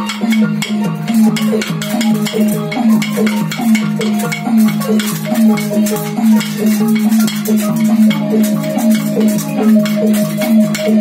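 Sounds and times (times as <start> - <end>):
low held tone: 0.0 - 11.0
sliding pitched notes: 0.0 - 11.0
struck percussion beat: 0.0 - 11.0.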